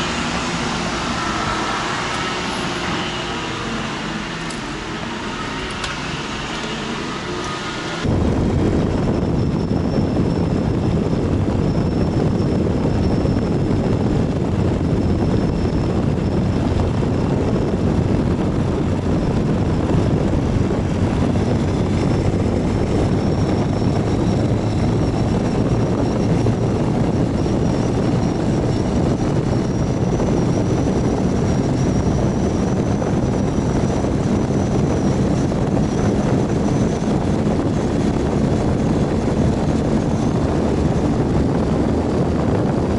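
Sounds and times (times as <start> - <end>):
road noise: 0.0 - 42.9
wind noise: 0.0 - 42.9
motorcycle engine running: 8.1 - 42.9.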